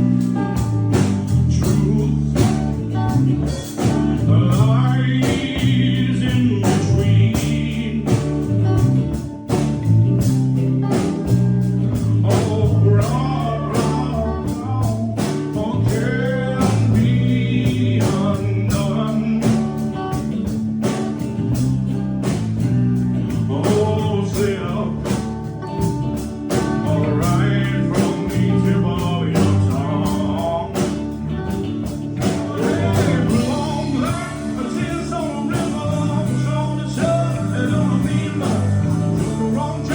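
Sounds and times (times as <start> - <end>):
person singing: 0.0 - 9.6, 11.9 - 20.2, 23.3 - 31.6, 32.2 - 39.9
bass line: 0.0 - 39.9
drums: 0.0 - 39.9
guitar: 0.0 - 39.9.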